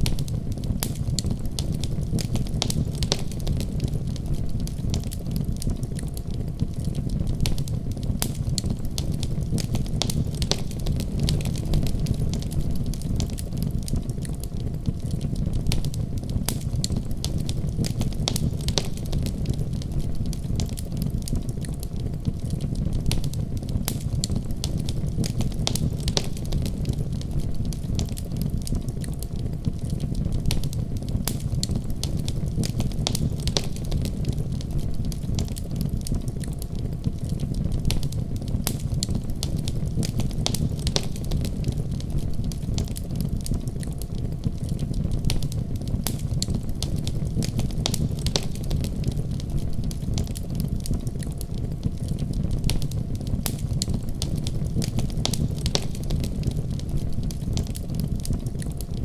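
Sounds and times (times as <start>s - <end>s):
burning wood crackling and popping: 0.0s - 59.0s
low rumble of flames: 0.0s - 59.0s.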